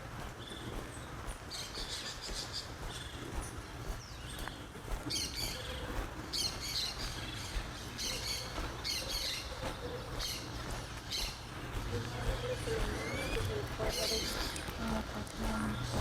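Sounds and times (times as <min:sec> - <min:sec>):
steady low hum: 0:00.0 - 0:16.0
birds squawking: 0:00.2 - 0:16.0.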